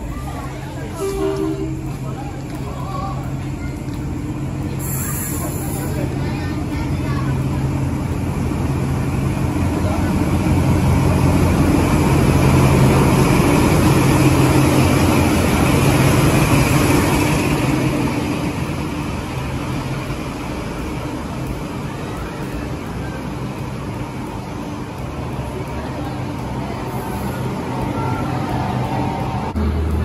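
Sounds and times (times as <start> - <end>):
passenger train running: 0.0 - 30.0.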